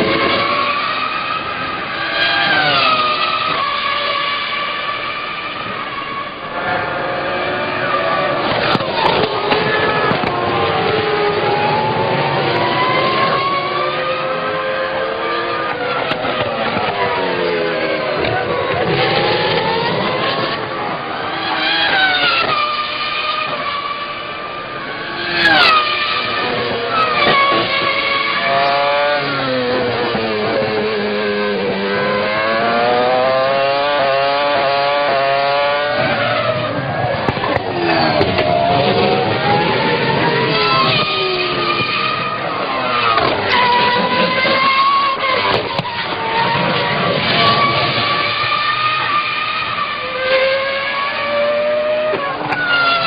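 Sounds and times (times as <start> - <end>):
racing car engine at high revs: 0.0 - 53.0.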